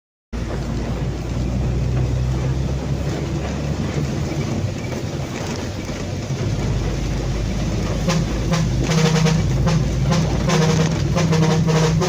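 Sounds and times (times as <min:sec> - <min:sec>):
engine humming: 0:00.3 - 0:12.0
noisy wash: 0:00.4 - 0:12.0.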